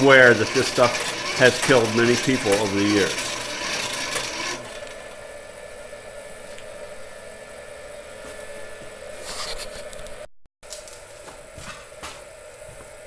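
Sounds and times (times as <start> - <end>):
small blower fan humming: 0.0 - 13.0.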